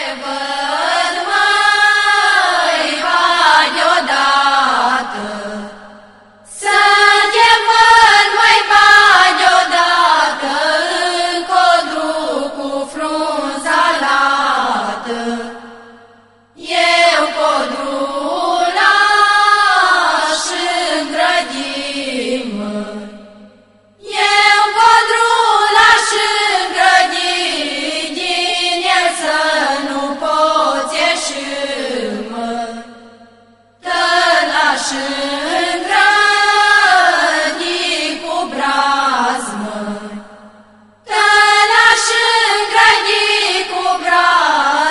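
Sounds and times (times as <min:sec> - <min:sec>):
women and girls singing: 0:00.0 - 0:44.9.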